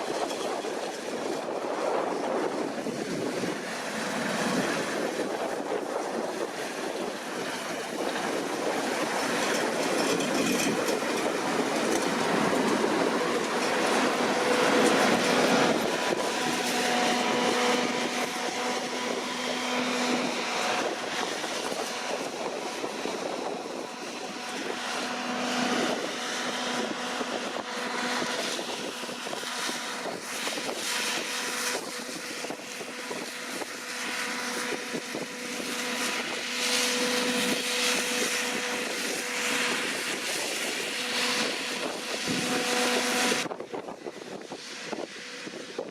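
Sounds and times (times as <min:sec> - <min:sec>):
combine harvester machinery: 0:00.0 - 0:45.9
steady whine: 0:00.0 - 0:45.9.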